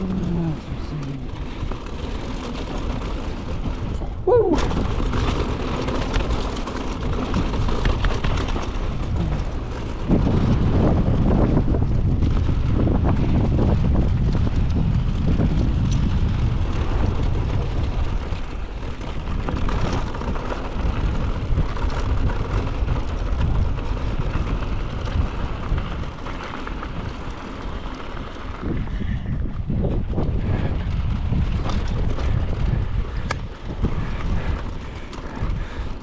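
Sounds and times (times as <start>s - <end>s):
bike knocks and rattles: 0.0s - 36.0s
wind on microphone: 0.0s - 36.0s.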